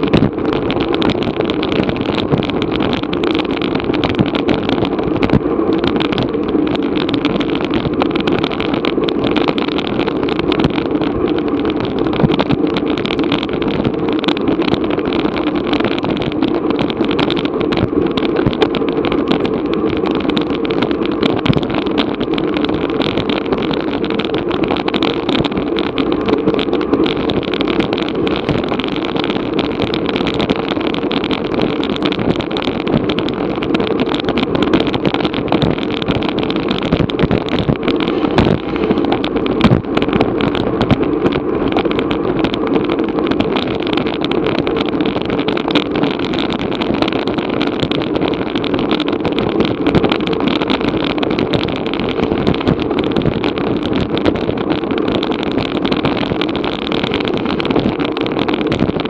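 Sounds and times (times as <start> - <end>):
bicycle tyre and road noise: 0.0 - 59.0
wind rushing over microphone: 0.0 - 59.0.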